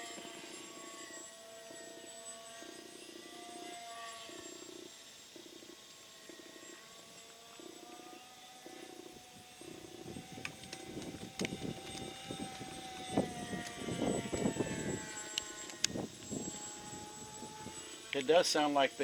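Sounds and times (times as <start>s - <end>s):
electric motors whining: 0.0s - 19.0s
low motor buzz cutting in and out: 0.0s - 19.0s.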